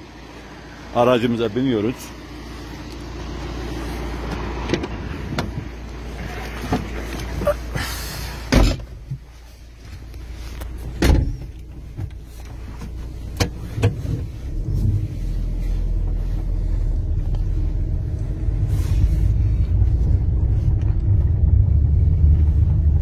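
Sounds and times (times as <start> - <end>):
car driving on gravel: 1.2 - 23.0.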